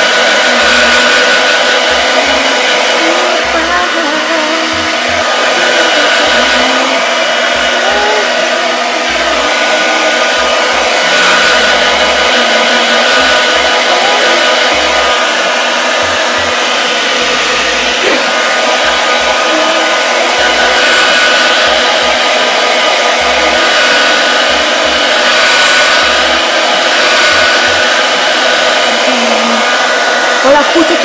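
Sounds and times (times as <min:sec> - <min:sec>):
hair dryer running: 0:00.0 - 0:31.0.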